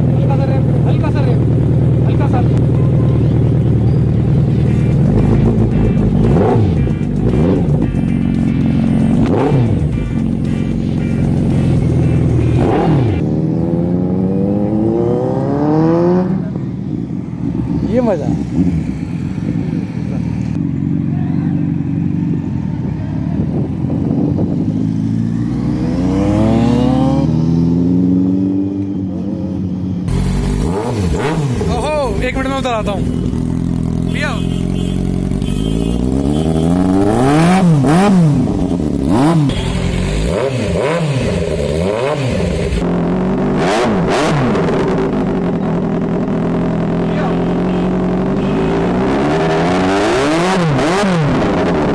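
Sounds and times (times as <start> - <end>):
motorcycle engine running steadily: 0.0 - 15.7, 16.3 - 27.5, 28.7 - 43.6, 44.6 - 49.0.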